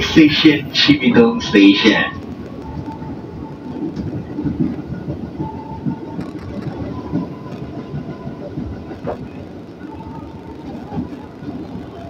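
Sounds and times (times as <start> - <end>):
faint whine: 0.0 - 12.0
train wheels rumbling on rail: 0.0 - 12.0.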